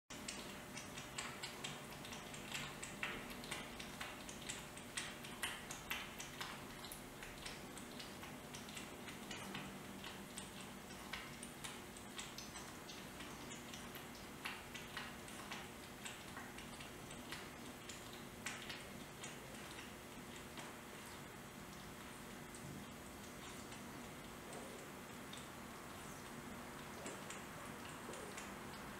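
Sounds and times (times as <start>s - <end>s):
kitten lapping milk: 0.1s - 28.9s.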